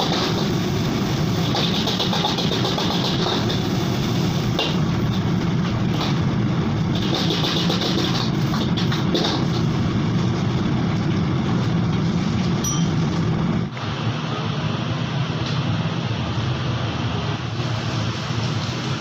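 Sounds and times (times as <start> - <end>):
gas wok burner rumbling: 0.0 - 19.0.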